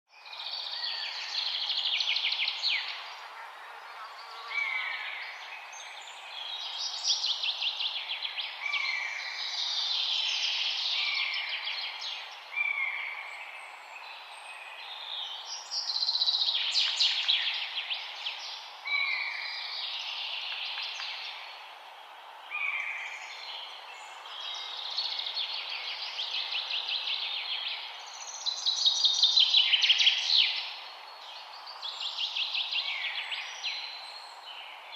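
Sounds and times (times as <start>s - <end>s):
faint background hiss: 0.1s - 34.9s
songbirds singing: 0.1s - 34.9s.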